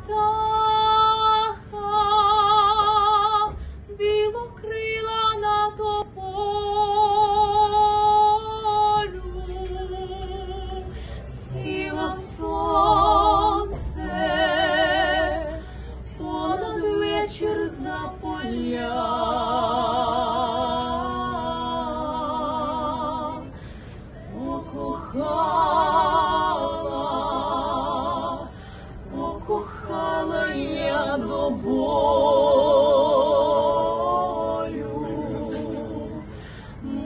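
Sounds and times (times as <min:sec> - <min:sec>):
women singing a cappella: 0:00.0 - 0:37.0.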